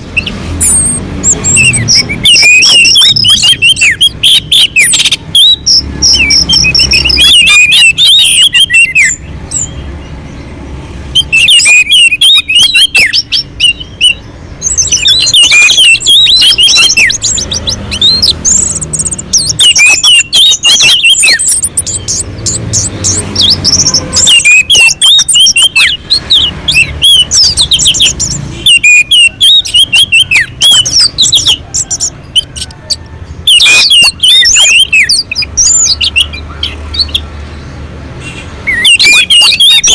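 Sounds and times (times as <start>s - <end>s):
thrush singing: 0.0s - 39.9s.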